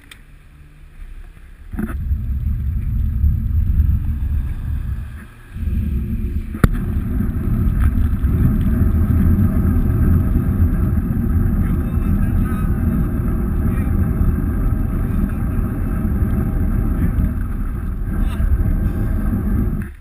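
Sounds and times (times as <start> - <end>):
wind buffeting microphone: 1.7 - 20.0.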